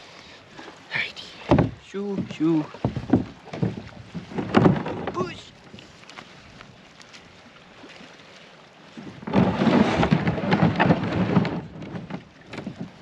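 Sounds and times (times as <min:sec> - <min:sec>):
kayak hull scraping on shore: 0:00.5 - 0:13.0.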